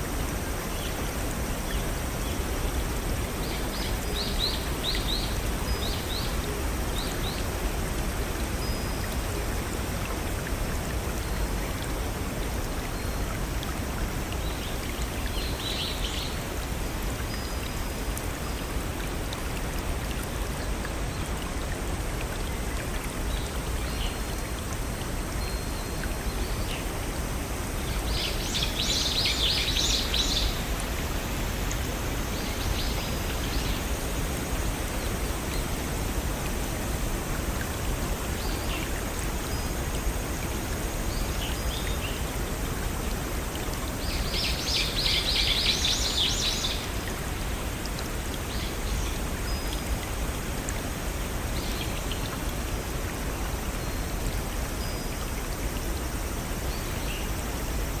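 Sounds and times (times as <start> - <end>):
small waterfall and brook rushing: 0.0 - 58.0.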